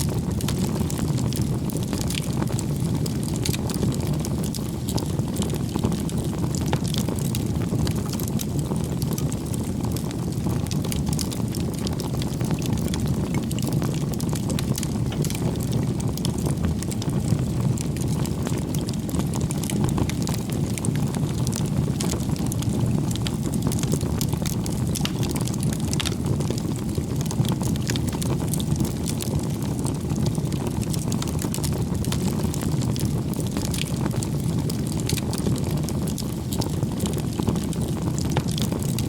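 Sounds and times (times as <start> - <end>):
bonfire roaring and crackling: 0.0 - 39.0.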